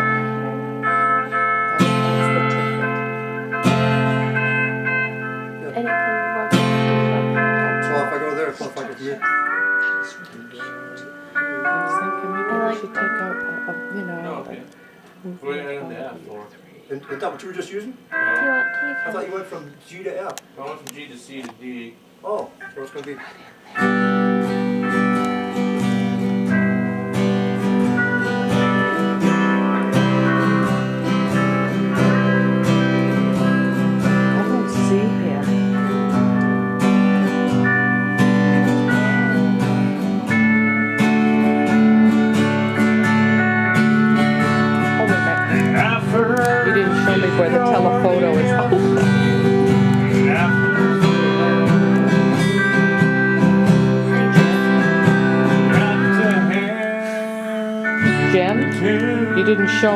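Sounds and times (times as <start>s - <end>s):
acoustic guitar strumming chords: 0.0s - 16.4s, 17.0s - 59.9s.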